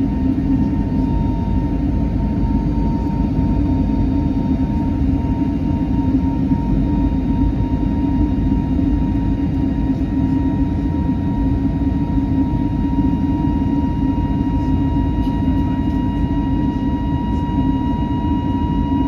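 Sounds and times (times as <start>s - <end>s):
jet engine roar in cabin: 0.0s - 19.0s.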